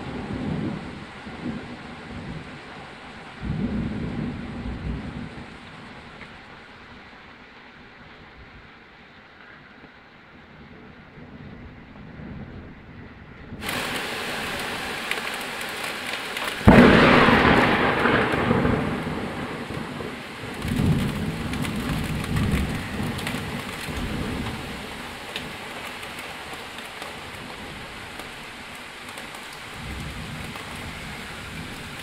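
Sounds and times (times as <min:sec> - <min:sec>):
thunder rumbling: 0:00.0 - 0:07.1, 0:10.5 - 0:32.0
heavy rain on pavement: 0:00.0 - 0:32.0.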